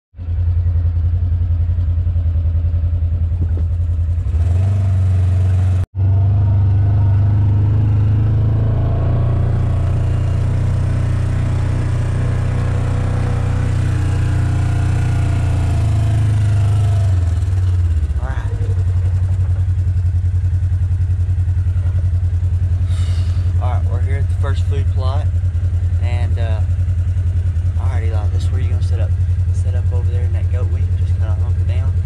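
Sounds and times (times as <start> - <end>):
vehicle engine humming: 0.2 - 32.0.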